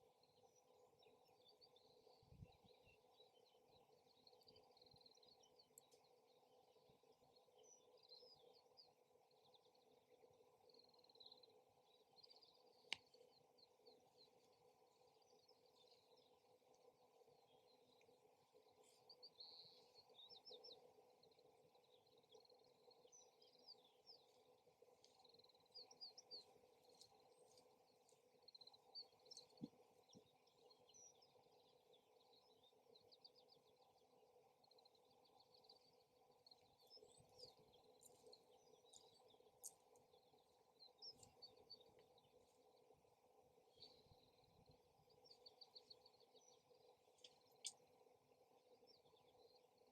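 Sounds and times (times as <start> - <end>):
birds chirping and trilling: 0.0 - 49.9.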